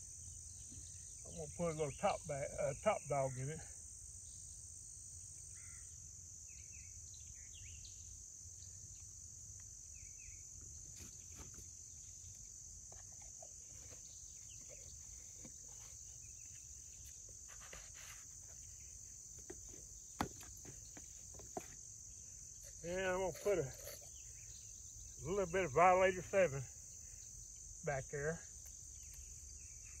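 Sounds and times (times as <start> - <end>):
faint high insect chorus: 0.0 - 30.0.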